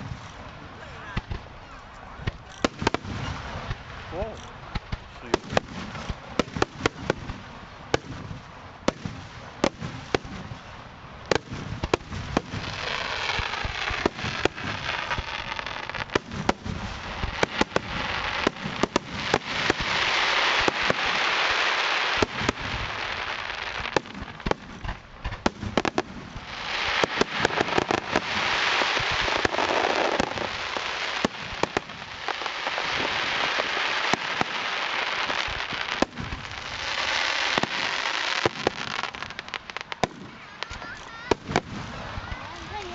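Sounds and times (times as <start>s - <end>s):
fireworks bangs: 0.0s - 42.9s
fireworks crackling: 0.0s - 42.9s.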